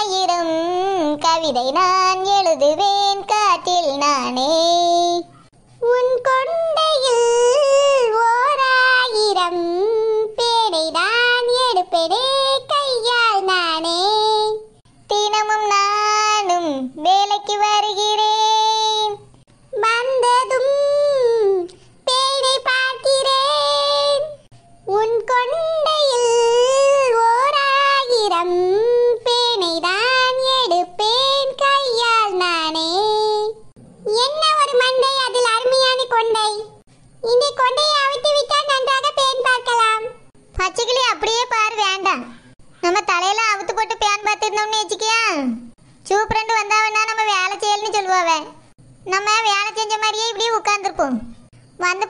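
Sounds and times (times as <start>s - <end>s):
person singing unaccompanied: 0.0s - 52.0s.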